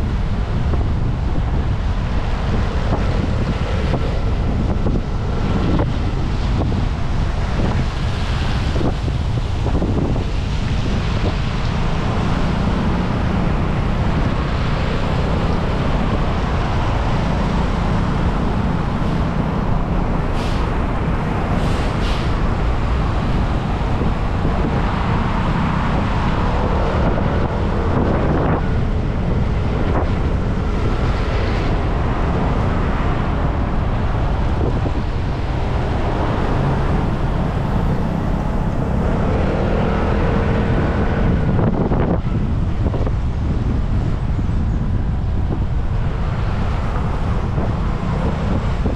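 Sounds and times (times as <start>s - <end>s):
tyres hissing on wet road: 0.0s - 48.9s
wind rush on microphone: 0.0s - 48.9s.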